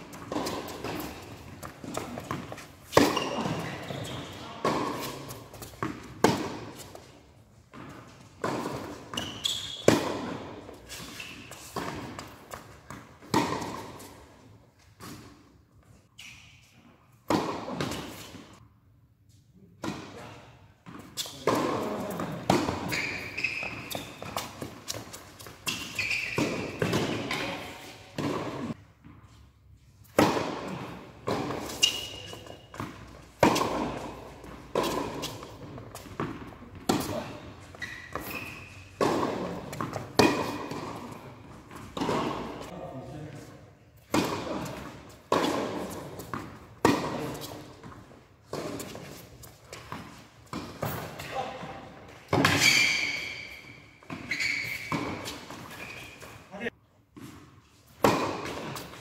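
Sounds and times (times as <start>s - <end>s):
tennis balls bouncing on court: 0.0s - 15.5s, 19.8s - 29.3s, 30.0s - 42.8s, 44.0s - 56.4s, 57.1s - 59.0s
rackets hitting tennis balls: 0.0s - 18.6s, 19.4s - 59.0s.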